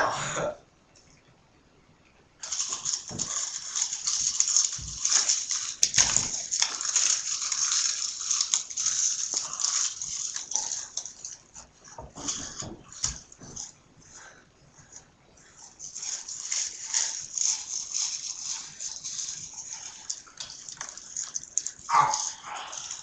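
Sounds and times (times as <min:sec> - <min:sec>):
crackers crunched and chewed: 0:02.4 - 0:23.0.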